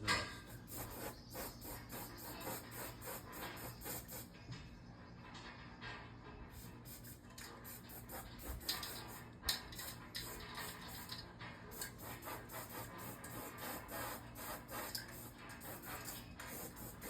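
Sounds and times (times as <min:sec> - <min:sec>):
brush rasping on sheet metal: 0:00.4 - 0:04.3, 0:06.6 - 0:09.2, 0:09.8 - 0:17.0.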